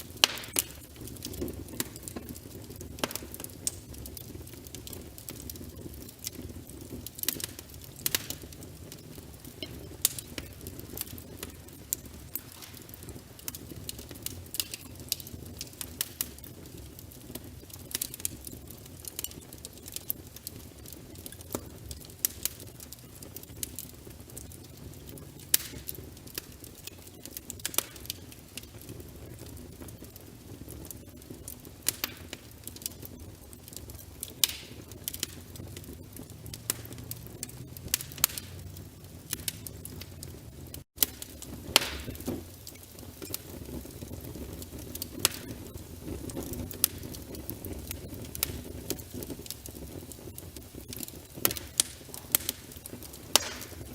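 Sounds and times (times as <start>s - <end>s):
logs crackling and popping: 0.0s - 53.9s
low rumble of flames: 0.0s - 53.9s.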